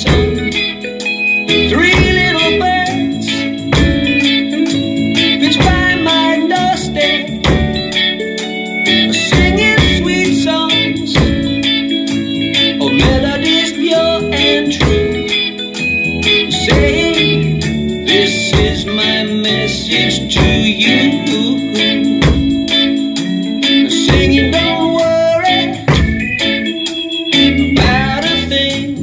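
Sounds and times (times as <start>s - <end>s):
backing track sustained instruments: 0.0s - 29.0s
drum kit reggae groove: 0.0s - 29.0s.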